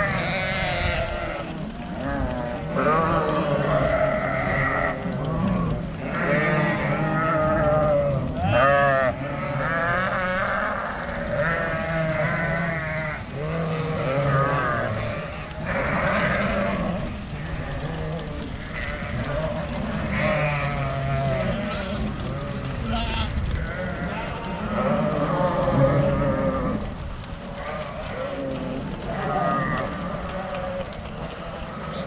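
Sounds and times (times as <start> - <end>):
flock of sheep bleating: 0.0 - 32.0.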